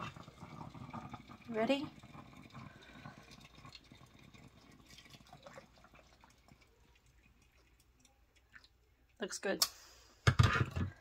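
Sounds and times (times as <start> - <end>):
coffee pouring into mug: 0.0 - 9.2.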